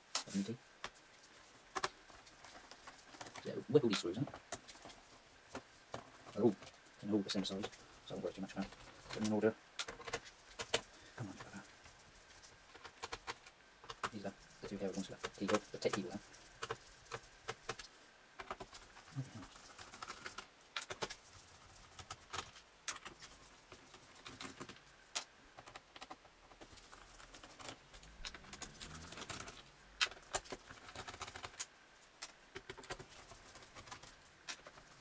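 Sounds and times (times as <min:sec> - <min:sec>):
screws and plastic case handled: 0:01.7 - 0:12.0, 0:12.7 - 0:35.0.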